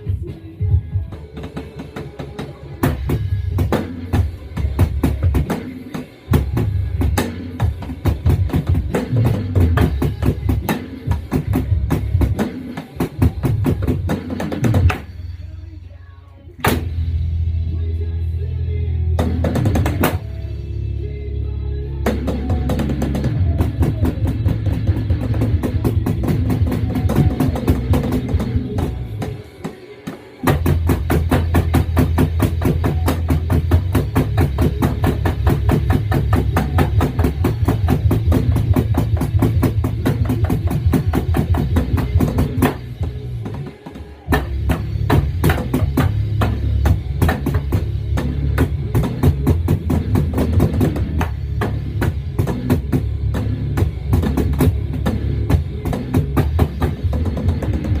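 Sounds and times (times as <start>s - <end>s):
drum kit rock beat: 0.0s - 15.3s, 16.6s - 18.4s, 19.0s - 20.7s, 22.0s - 58.0s.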